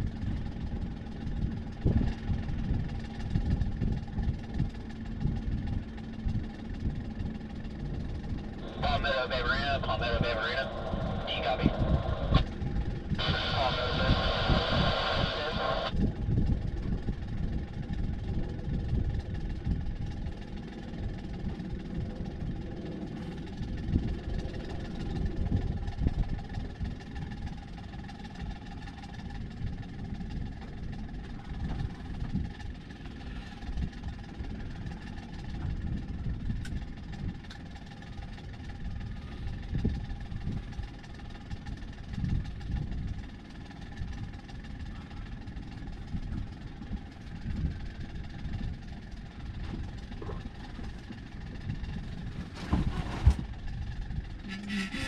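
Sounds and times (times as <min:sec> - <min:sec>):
boat engine humming: 0:00.0 - 0:55.0
low rumble: 0:00.0 - 0:55.0.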